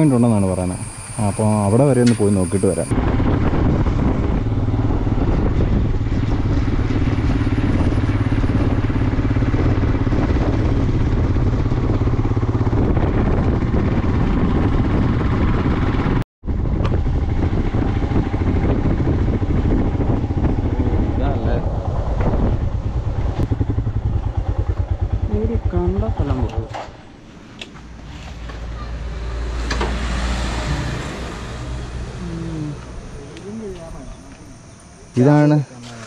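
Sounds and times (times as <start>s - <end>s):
road and wind noise: 0.0s - 36.0s
vehicle engine running: 0.0s - 36.0s.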